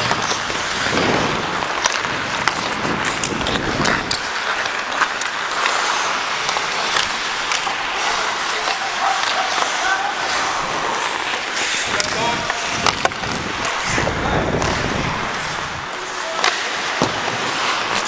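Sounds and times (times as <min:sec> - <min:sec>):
hockey sticks and puck clacking: 0:00.0 - 0:18.0
skate blades scraping on ice: 0:00.0 - 0:18.0.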